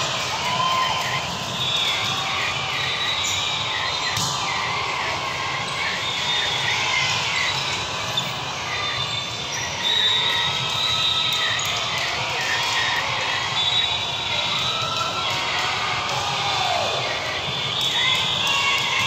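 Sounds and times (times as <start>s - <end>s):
many overlapping voices: 0.0s - 19.0s.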